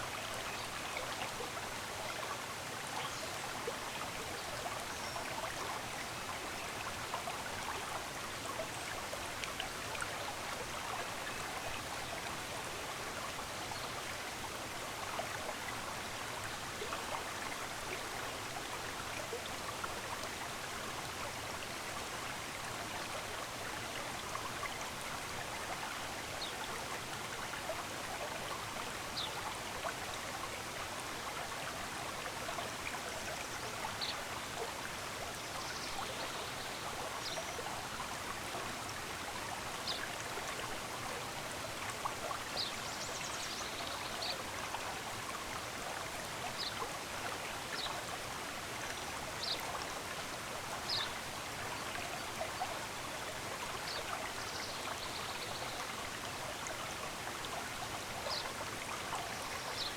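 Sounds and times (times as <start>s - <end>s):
stream running water: 0.0s - 59.9s.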